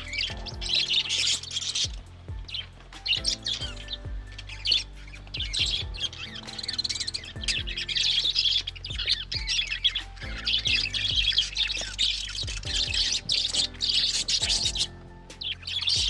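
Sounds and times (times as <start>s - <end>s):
background music with bass swoops: 0.0s - 16.0s
budgerigars chirping and warbling: 0.0s - 16.0s.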